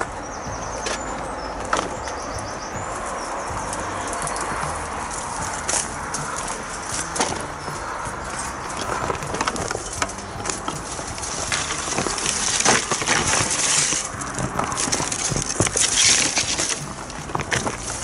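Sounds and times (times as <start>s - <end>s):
footsteps crunching on twigs: 0.0s - 18.0s
leaves and branches rustling: 0.0s - 18.0s.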